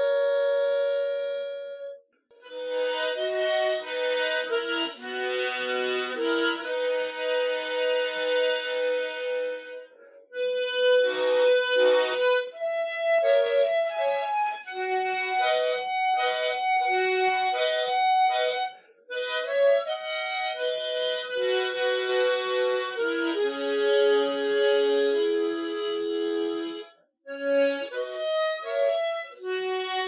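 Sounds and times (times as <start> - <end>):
harmonica playing slow melody: 0.0 - 30.0.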